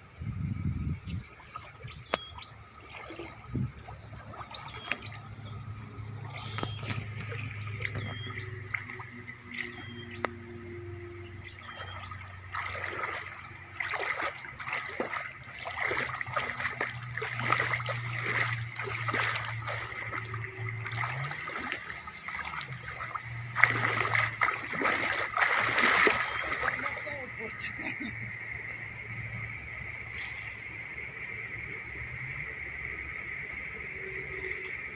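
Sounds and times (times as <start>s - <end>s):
low steady hum: 0.0s - 34.9s
shallow water splashing: 1.0s - 34.9s.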